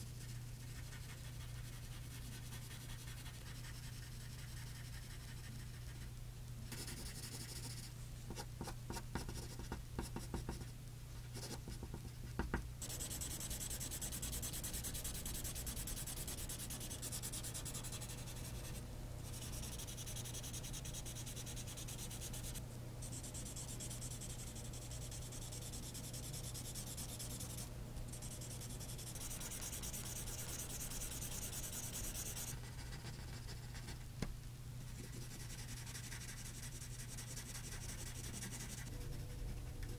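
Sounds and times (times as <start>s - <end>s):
pencil scratching on paper: 0.3s - 6.0s, 6.7s - 10.6s, 11.4s - 11.9s, 12.8s - 34.0s, 34.9s - 39.9s.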